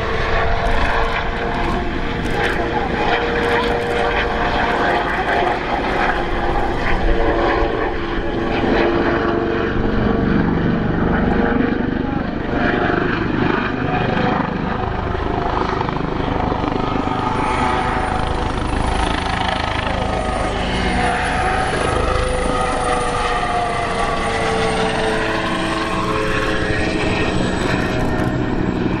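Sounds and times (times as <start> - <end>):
helicopter engine whine: 0.0 - 29.0
helicopter rotor beat: 0.0 - 29.0.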